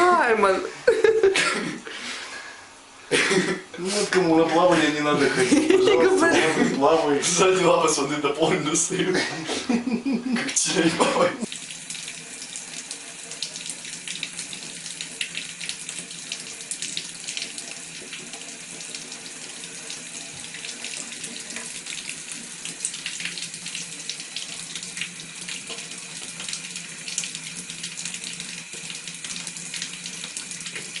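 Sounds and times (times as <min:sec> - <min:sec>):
water running in bathtub: 0:03.8 - 0:31.0.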